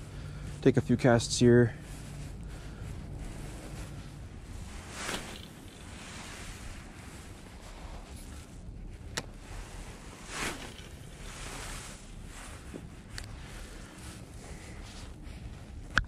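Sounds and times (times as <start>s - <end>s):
fishing rod swishing: 1.8s - 15.8s.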